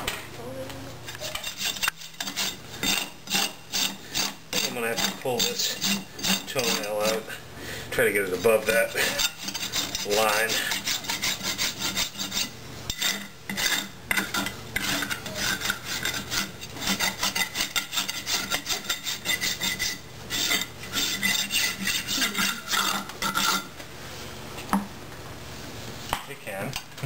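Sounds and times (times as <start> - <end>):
rasp filing a hoof: 1.2 - 7.3, 8.1 - 23.7.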